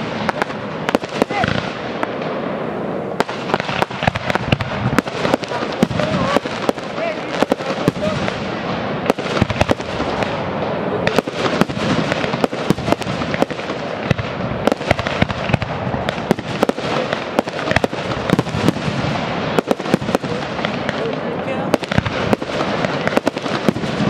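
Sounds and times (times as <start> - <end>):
dense continuous noise: 0.0 - 24.0
firework shells bursting: 0.0 - 24.0.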